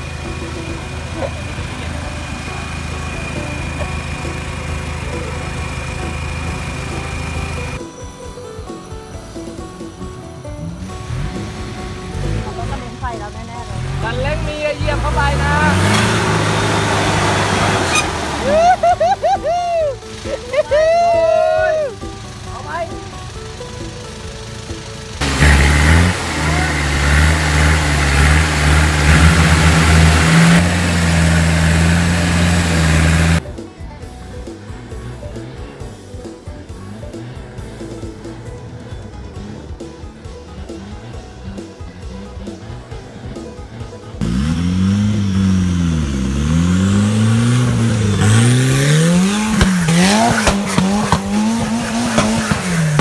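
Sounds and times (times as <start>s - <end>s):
engine revving hard: 0.0s - 7.8s, 10.8s - 53.0s.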